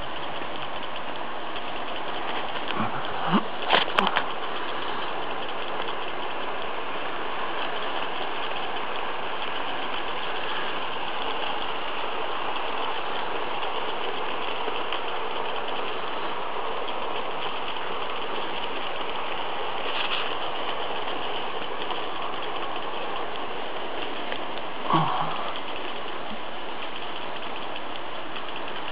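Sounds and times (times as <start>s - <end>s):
model train motors whirring: 0.0s - 28.9s.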